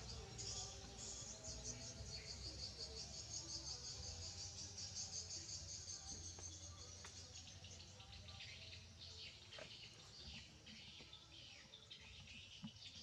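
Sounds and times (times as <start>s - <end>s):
insects chirping: 0.0s - 11.4s.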